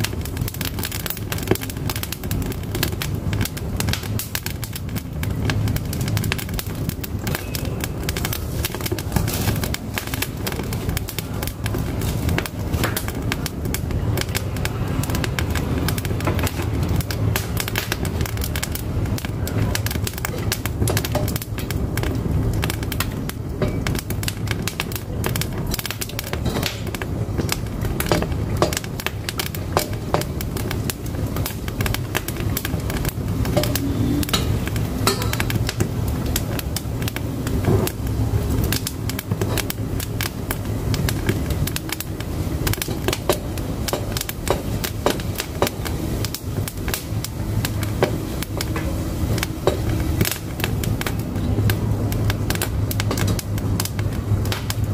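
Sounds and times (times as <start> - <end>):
firewood crackling and popping: 0.0 - 54.9
low rumble of stove fire: 0.0 - 54.9.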